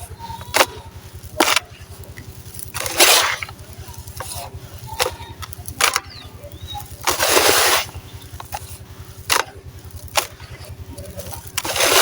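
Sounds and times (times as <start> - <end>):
sand-cement crumbling crunch: 0.0 - 12.0.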